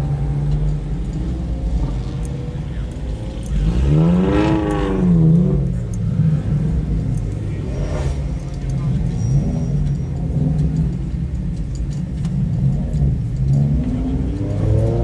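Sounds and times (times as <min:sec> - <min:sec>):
car engine revving: 0:00.0 - 0:15.0
engines idling: 0:00.0 - 0:15.0.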